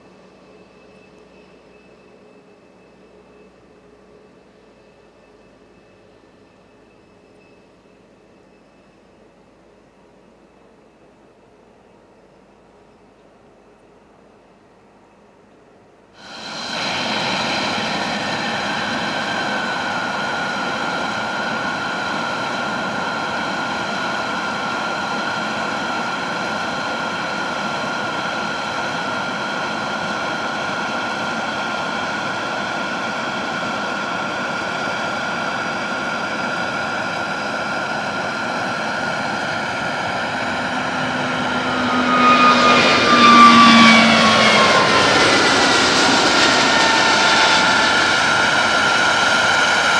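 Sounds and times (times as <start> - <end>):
jet engines at takeoff thrust: 0.0 - 13.1, 16.1 - 49.9.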